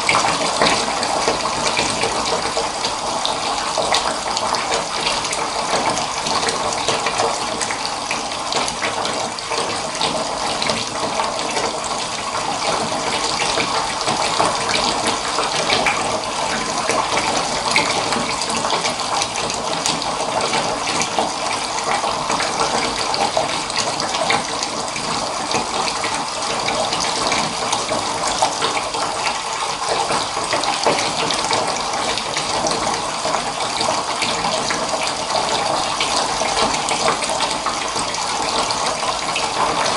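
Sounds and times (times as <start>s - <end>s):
tap water running into bath: 0.0s - 39.9s.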